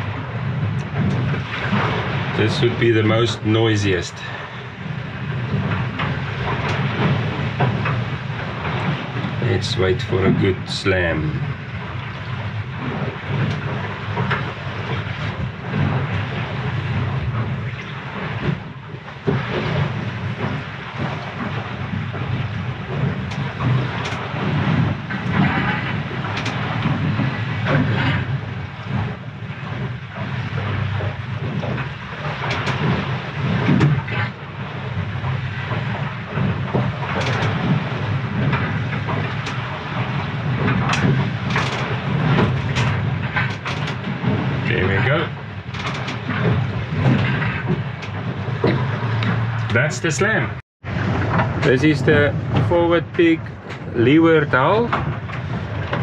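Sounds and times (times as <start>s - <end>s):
bow knocking on waves: 0.0s - 56.0s
seawater rushing along hull: 0.0s - 56.0s.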